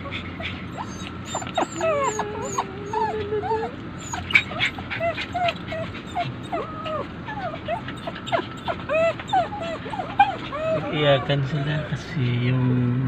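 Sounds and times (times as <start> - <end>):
dogs whining and whimpering: 0.0 - 12.2.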